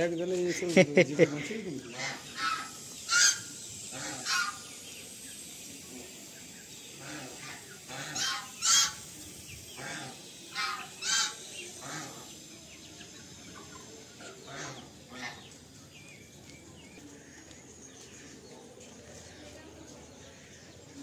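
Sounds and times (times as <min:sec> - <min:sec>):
harsh bird calls: 0:00.0 - 0:21.0.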